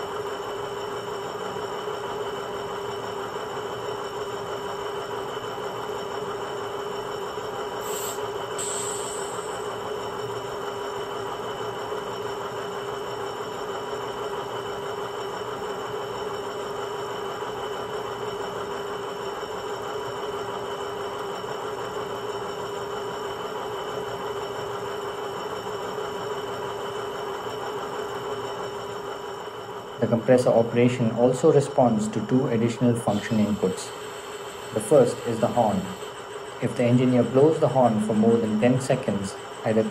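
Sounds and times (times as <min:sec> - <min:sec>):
diesel locomotive drone from small speaker: 0:00.0 - 0:39.9.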